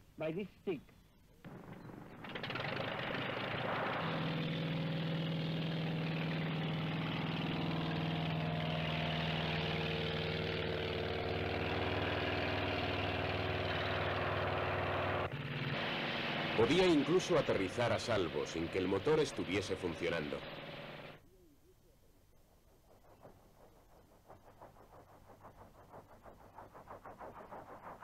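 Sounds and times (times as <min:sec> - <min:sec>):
piston engine drone: 0:01.5 - 0:21.2, 0:23.2 - 0:28.0.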